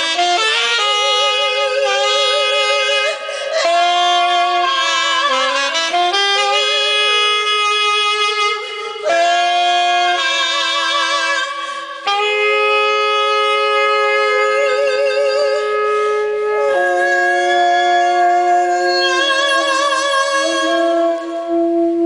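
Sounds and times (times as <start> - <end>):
saxophone sustained notes: 0.0 - 22.0
woman singing with vibrato: 0.0 - 22.0.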